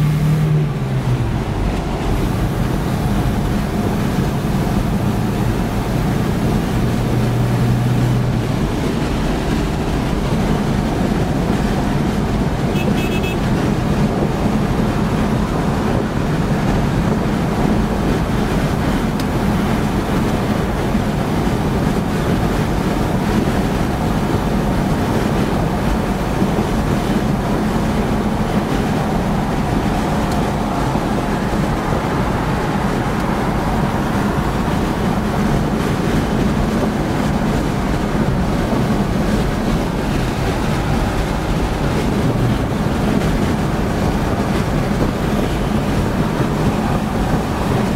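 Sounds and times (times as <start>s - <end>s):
engine drone: 0.0s - 47.9s
road and wind noise: 0.0s - 47.9s.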